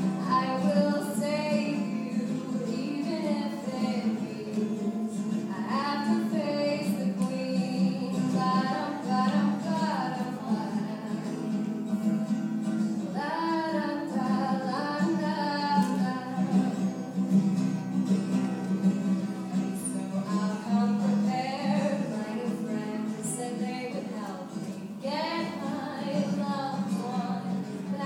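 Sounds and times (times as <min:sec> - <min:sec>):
woman singing: 0:00.0 - 0:12.2, 0:12.8 - 0:17.2, 0:19.4 - 0:28.0
acoustic guitar strumming: 0:00.0 - 0:28.0.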